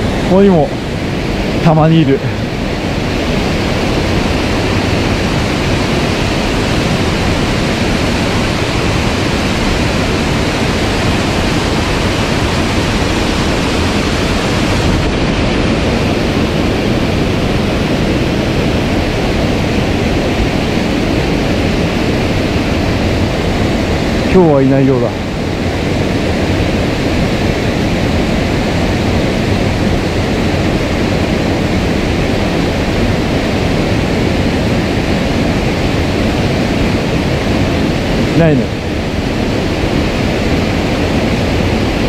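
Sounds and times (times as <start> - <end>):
stream rushing over rocks: 0.0 - 42.0.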